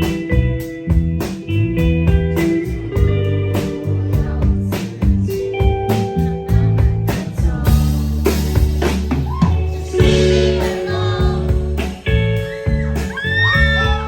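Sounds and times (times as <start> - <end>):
bass: 0.0 - 14.0
drums beating: 0.0 - 14.0
electric guitar: 0.0 - 14.0.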